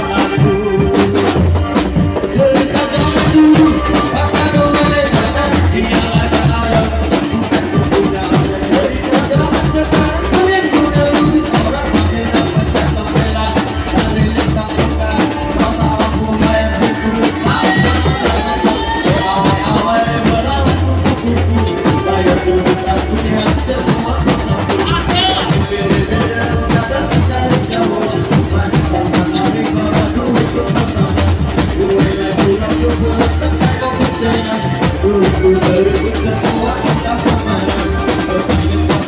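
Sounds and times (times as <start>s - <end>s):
drum band music: 0.0s - 39.0s.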